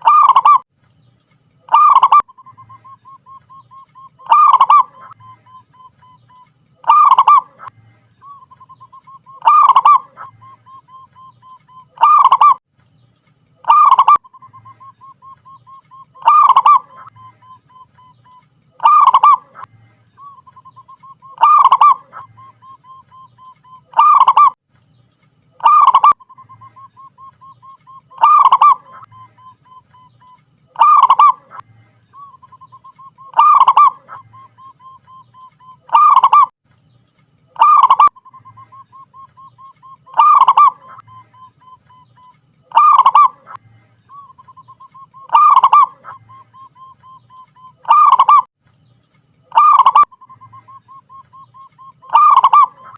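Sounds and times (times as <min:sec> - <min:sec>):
dove cooing: 0:00.0 - 0:00.6, 0:01.7 - 0:12.6, 0:13.6 - 0:24.6, 0:25.6 - 0:31.6, 0:32.2 - 0:36.5, 0:37.6 - 0:48.5, 0:49.5 - 0:52.9.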